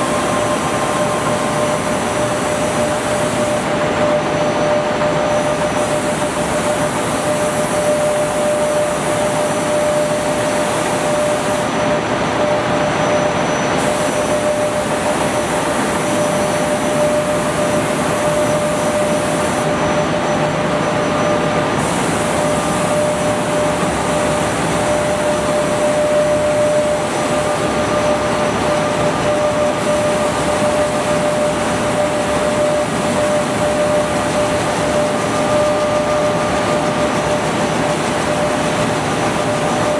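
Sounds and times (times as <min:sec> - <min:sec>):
machine whine: 0:00.0 - 0:39.9
production machine running: 0:00.0 - 0:39.9.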